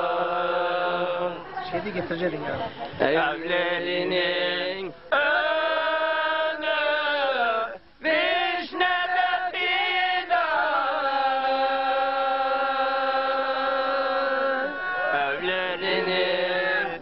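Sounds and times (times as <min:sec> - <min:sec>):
man singing unaccompanied: 0:03.0 - 0:17.0.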